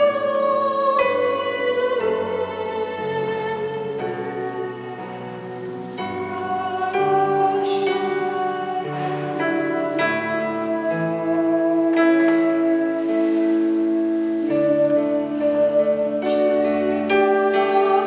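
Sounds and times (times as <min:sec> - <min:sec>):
boy singing a hymn: 0:00.0 - 0:18.0
guitar accompaniment: 0:00.0 - 0:18.0.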